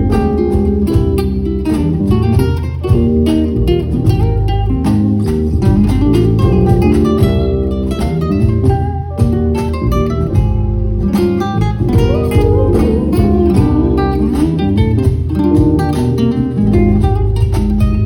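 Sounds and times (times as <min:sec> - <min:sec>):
band playing live: 0:00.0 - 0:18.0
guitar: 0:00.0 - 0:18.0
low bass: 0:00.0 - 0:18.0
regular drum beat: 0:00.0 - 0:18.0.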